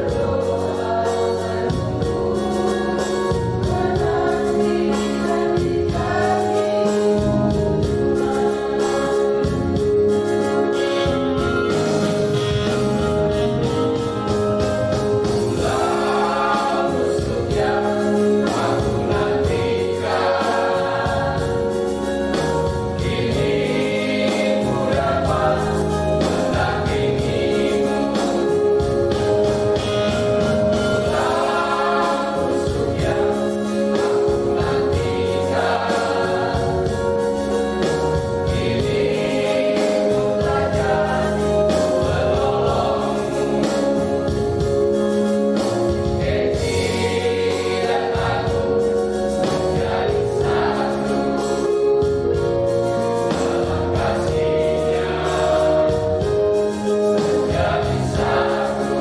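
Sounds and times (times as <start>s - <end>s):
mixed choir singing a hymn: 0.0s - 59.0s.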